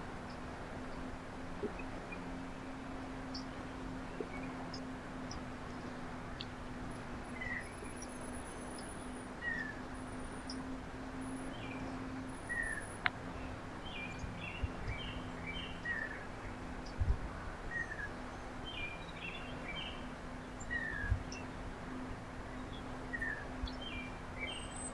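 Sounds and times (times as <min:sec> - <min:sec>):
steady low hum: 0:00.0 - 0:24.9
small songbirds chirping: 0:00.1 - 0:21.8, 0:22.4 - 0:24.9.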